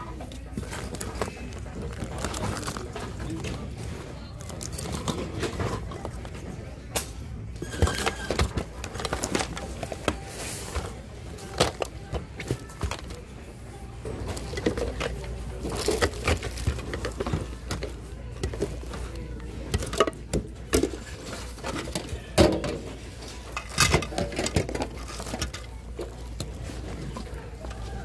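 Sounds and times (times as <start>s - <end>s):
hands rummaging through goods: 0.0s - 28.0s.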